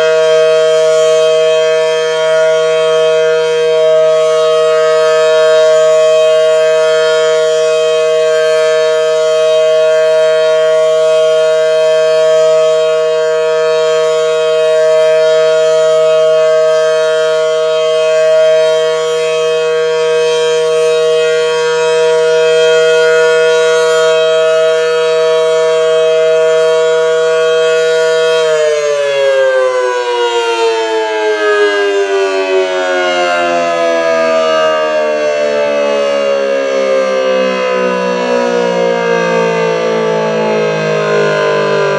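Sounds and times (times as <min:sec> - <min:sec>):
warning siren two-note tone: 0:00.0 - 0:41.9.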